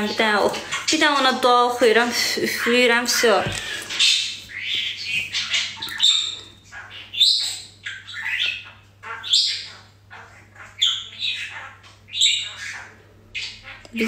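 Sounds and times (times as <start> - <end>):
bird squawking: 0.0 - 14.0.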